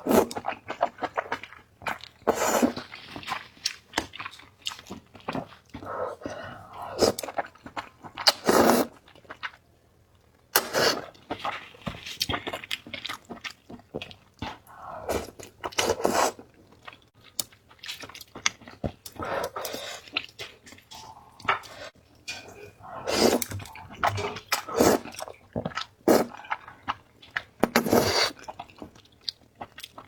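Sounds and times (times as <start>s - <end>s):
person slurping and chewing noodles: 0.0s - 9.6s, 10.6s - 17.0s, 17.7s - 30.0s.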